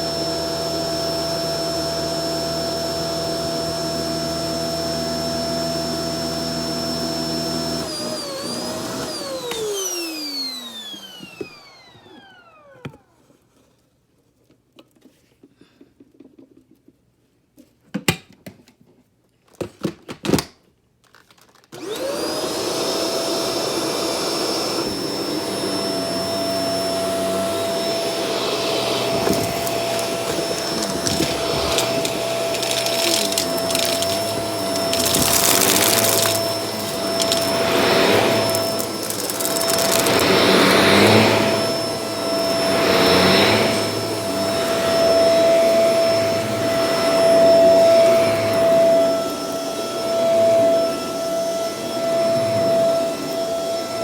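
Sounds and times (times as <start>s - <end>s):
vacuum cleaner motor whine: 0.0s - 13.3s, 21.8s - 54.0s.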